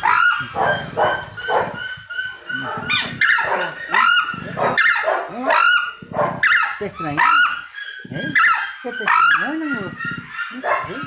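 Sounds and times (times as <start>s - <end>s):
bird honking calls: 0.0s - 10.7s.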